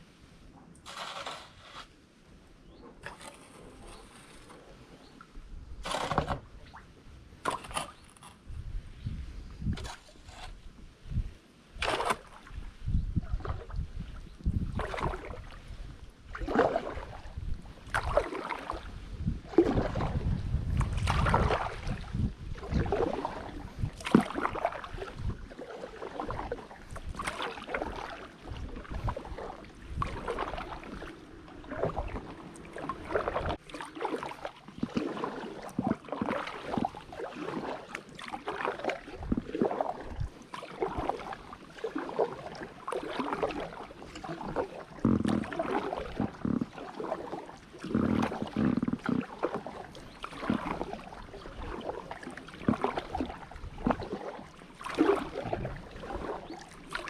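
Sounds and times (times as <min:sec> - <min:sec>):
kayak paddle strokes in water: 0:00.8 - 0:02.0, 0:05.8 - 0:57.0.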